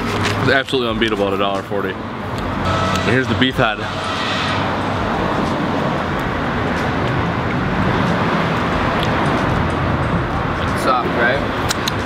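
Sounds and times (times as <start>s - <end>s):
street traffic passing: 0.0s - 12.0s.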